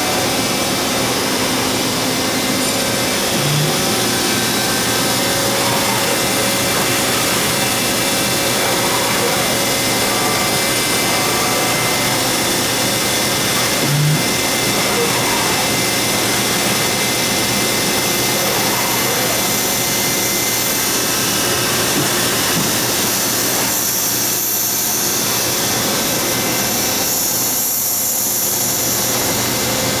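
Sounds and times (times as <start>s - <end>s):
machining center whirring: 0.0s - 30.0s.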